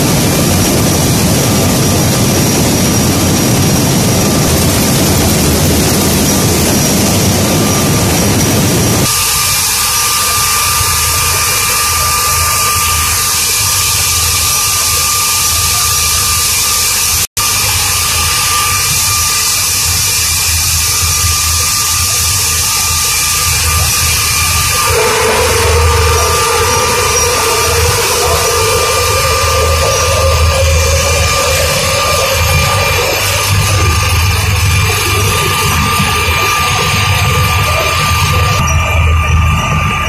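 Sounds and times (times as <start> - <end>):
machinery whine: 0.0 - 40.0
mill machinery running: 0.0 - 40.0.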